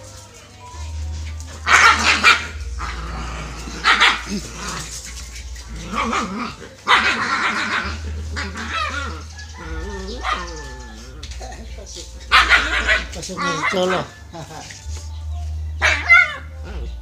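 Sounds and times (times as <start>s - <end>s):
dogs barking: 0.8s - 15.1s, 15.7s - 17.0s.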